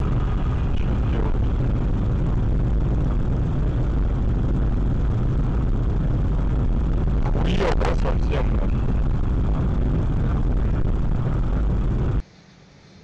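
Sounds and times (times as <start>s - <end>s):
car engine rumble: 0.0s - 12.2s
road noise: 0.0s - 13.0s.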